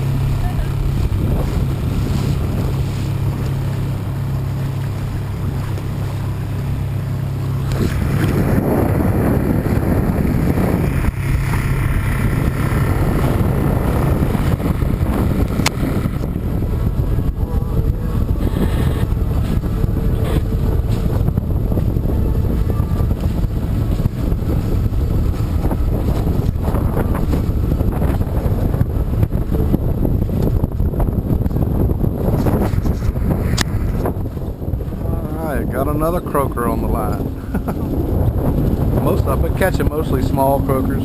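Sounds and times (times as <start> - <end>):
boat engine humming: 0.0 - 41.0
rushing water: 0.0 - 41.0
wind buffeting microphone: 0.0 - 41.0.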